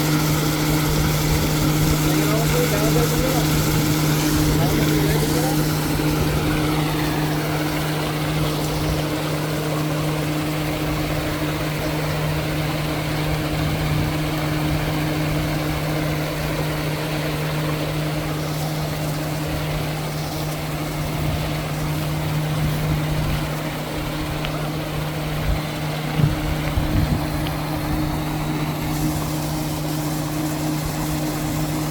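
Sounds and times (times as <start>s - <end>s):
machine humming and rumbling: 0.0s - 31.9s.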